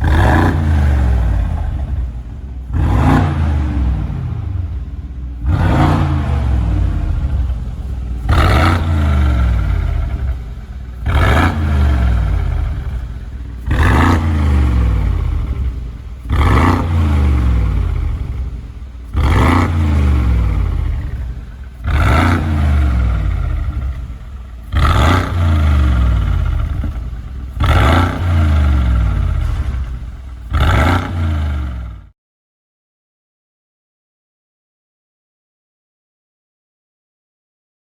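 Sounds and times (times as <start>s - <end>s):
engine revving through exhaust: 0.0s - 32.1s.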